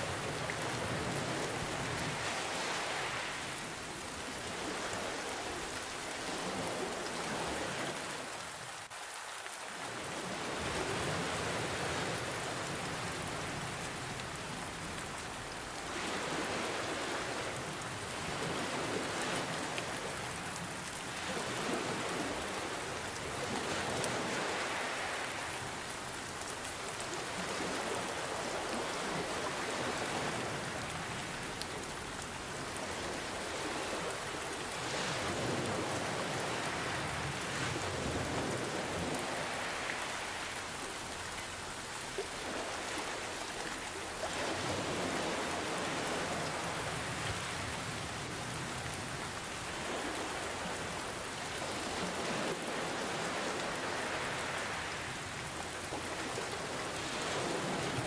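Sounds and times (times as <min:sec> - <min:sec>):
ocean waves: 0:00.0 - 0:58.0
rain falling: 0:00.0 - 0:58.0.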